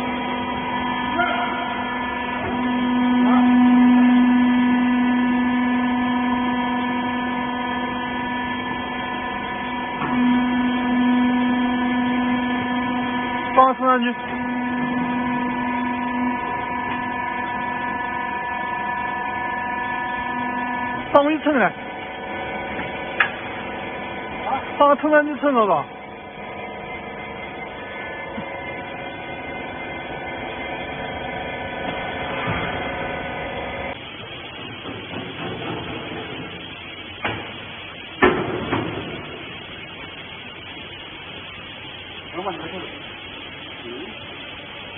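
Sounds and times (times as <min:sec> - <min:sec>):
hydraulic pump motor humming: 0:00.0 - 0:44.9.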